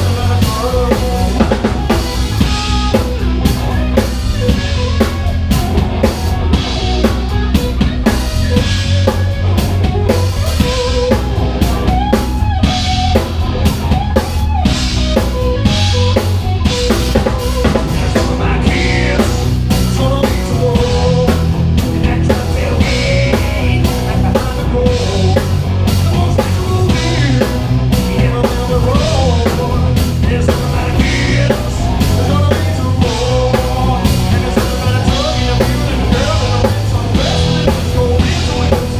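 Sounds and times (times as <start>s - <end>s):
bass guitar: 0.0s - 38.9s
drum kit beat: 0.0s - 38.9s
electric guitar: 0.0s - 38.9s.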